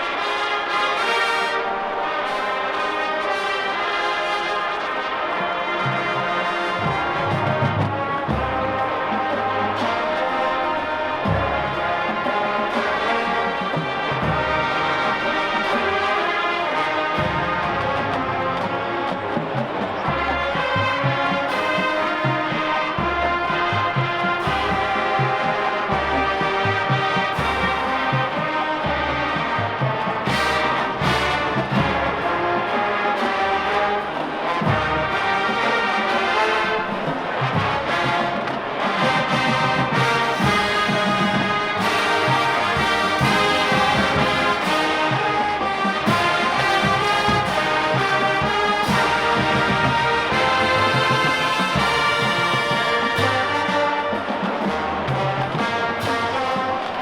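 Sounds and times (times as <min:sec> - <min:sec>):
trombones and trumpets: 0:00.0 - 0:57.0.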